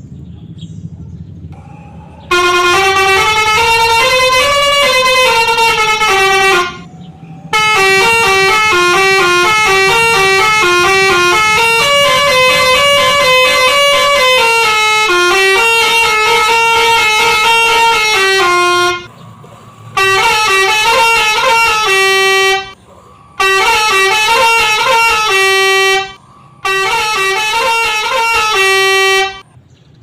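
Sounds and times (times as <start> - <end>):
low hum: 0.0 - 29.5
multi-tone bus horn melody: 1.6 - 29.6.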